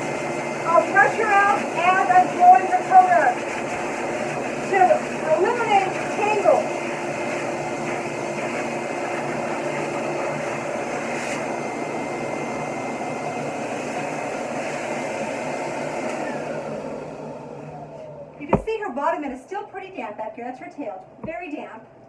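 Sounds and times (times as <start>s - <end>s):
dog dryer blowing air: 0.0s - 19.1s.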